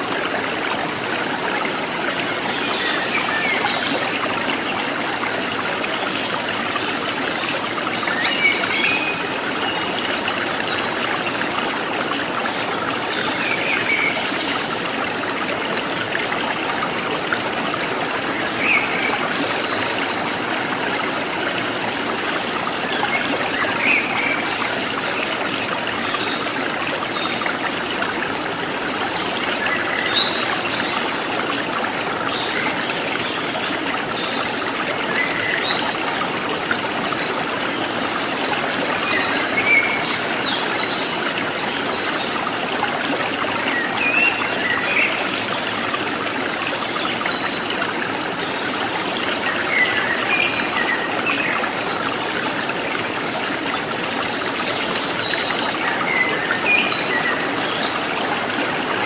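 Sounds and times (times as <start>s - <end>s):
water babbling over stones: 0.0s - 59.0s.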